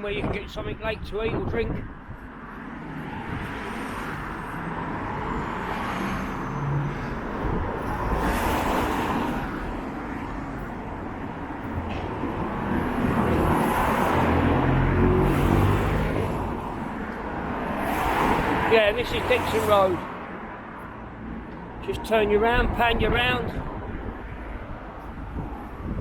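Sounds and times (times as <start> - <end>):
wind buffeting microphone: 0.0 - 6.0, 6.9 - 19.5, 22.3 - 26.0
traffic passing: 0.0 - 26.0.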